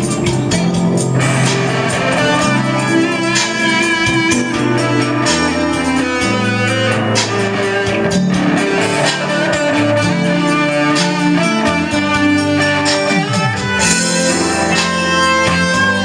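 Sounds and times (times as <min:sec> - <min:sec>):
guitar and bowed strings music: 0:00.0 - 0:16.0.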